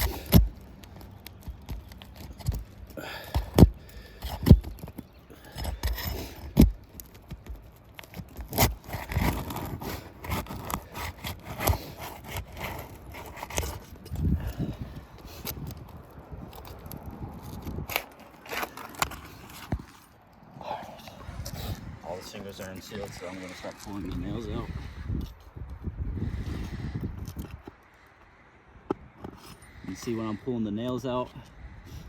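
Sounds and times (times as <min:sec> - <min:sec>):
shingles scraping and crackling: 0:00.0 - 0:30.5.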